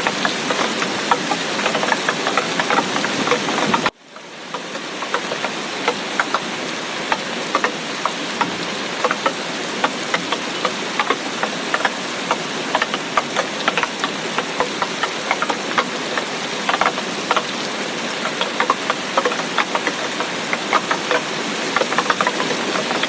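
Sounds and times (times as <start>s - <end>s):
heavy rain with pattering drops: 0.0s - 23.0s.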